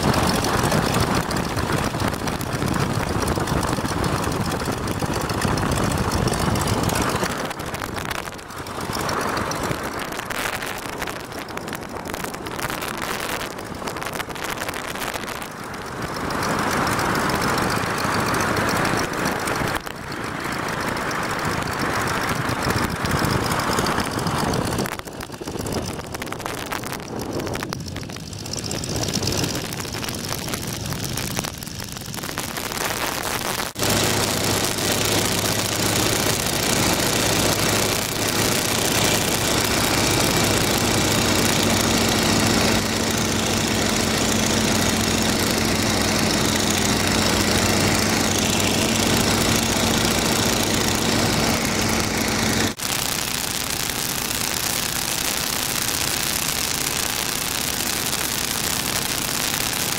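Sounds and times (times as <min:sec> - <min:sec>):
biplane engine and propeller: 0:00.0 - 0:59.9.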